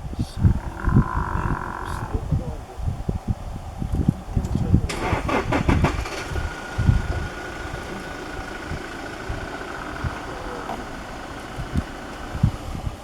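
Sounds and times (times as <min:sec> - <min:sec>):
engine idling: 0:00.0 - 0:13.0
engine cranking: 0:00.5 - 0:13.0.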